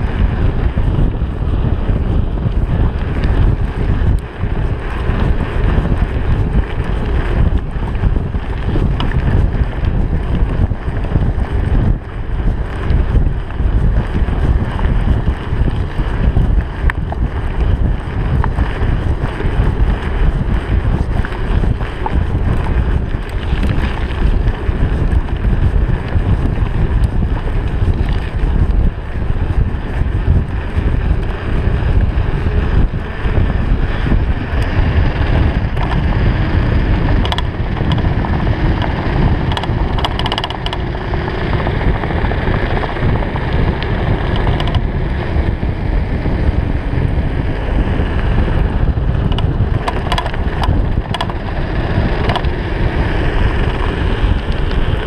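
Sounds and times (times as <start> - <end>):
bike tyres rolling on gravel: 0.0 - 55.0
wind rumble on microphone: 0.0 - 55.0
small clicks and rattles: 1.9 - 45.3, 49.1 - 55.0.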